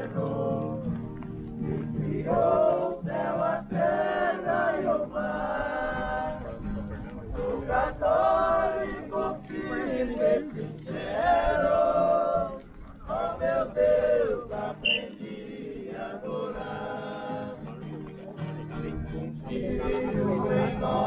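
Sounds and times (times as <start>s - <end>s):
group singing a hymn unaccompanied: 0.0s - 21.0s.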